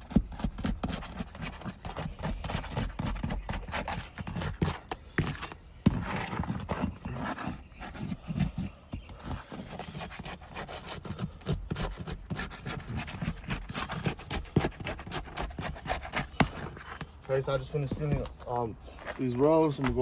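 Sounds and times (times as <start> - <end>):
roof shingles scraping and rubbing: 0.0 - 20.0.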